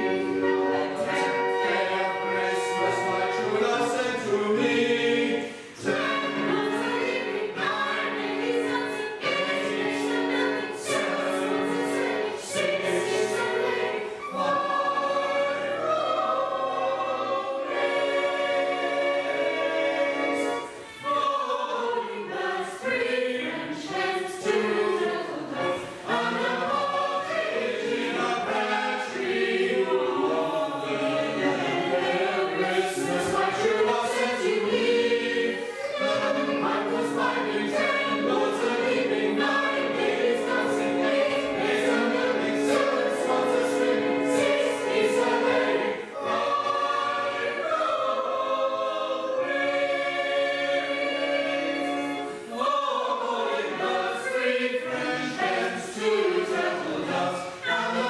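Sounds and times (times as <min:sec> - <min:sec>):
choir singing a carol: 0:00.0 - 0:58.0.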